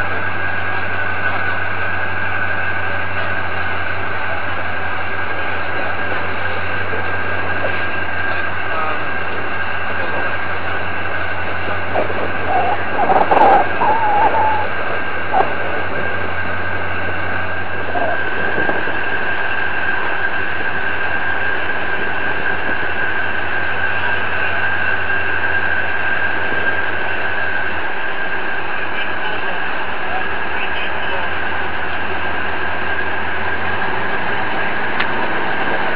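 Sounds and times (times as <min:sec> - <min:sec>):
crane engine low drone: 0:00.0 - 0:35.9
faint voices: 0:00.0 - 0:35.9
hydraulic high whine: 0:00.0 - 0:35.9.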